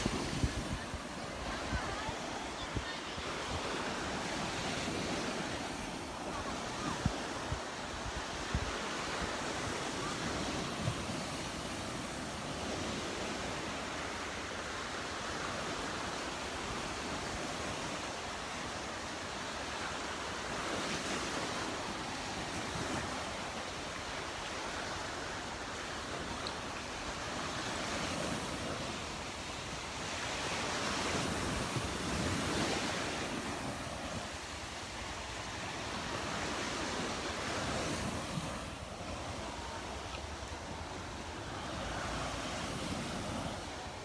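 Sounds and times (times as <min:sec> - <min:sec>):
surf washing onto beach: 0:00.0 - 0:44.0.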